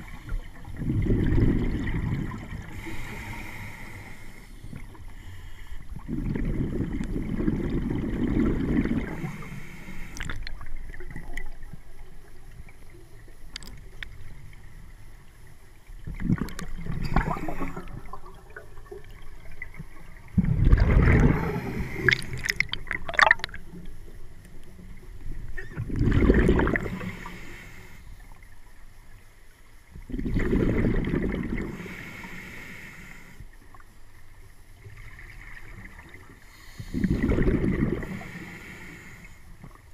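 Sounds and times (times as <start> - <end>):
underwater bubbles gurgling: 0.0 - 29.2, 29.8 - 39.9.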